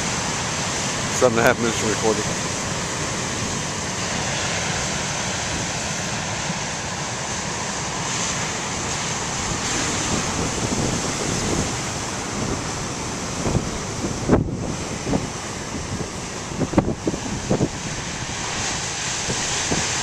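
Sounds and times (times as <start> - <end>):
ocean surf breaking: 0.0 - 20.0
wind blowing on microphone: 0.0 - 20.0.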